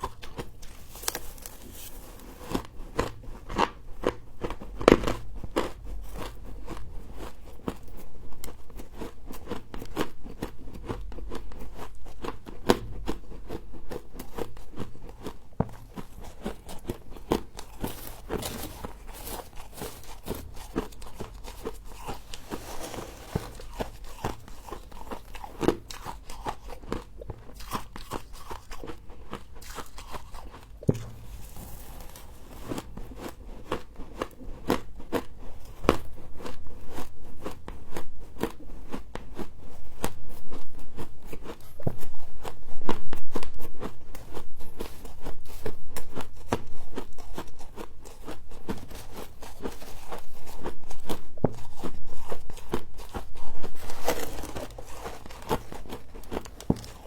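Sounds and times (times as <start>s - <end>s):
person chewing crisp frost: 0.0s - 57.0s.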